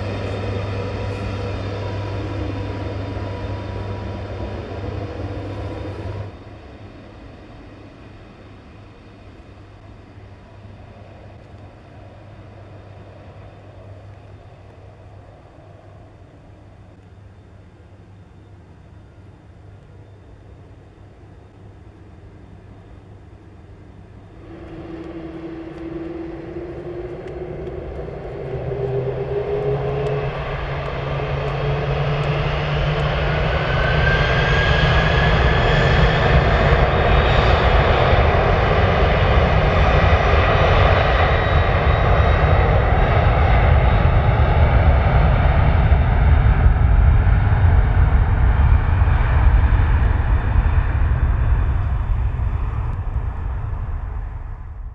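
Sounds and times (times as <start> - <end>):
jet engines spooling up: 0.0 - 17.0, 23.8 - 54.9.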